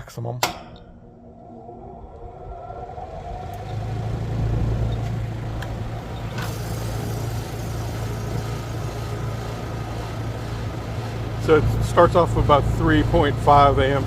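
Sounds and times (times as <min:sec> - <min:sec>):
compressor humming: 0:00.0 - 0:14.0
air conditioner fan running: 0:00.4 - 0:14.0.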